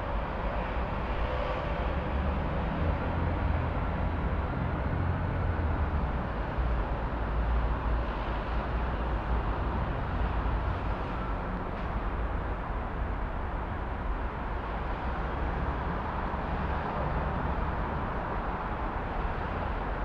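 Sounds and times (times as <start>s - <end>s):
rumble of city traffic: 0.0s - 20.0s.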